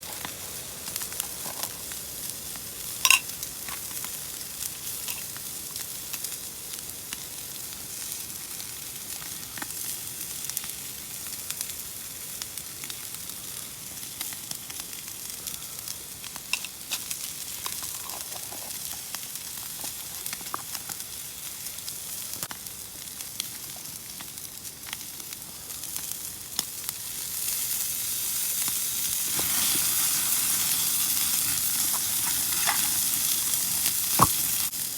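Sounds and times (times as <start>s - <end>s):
food sizzling in a pan: 0.0s - 34.9s
oil popping and crackling: 0.0s - 34.9s.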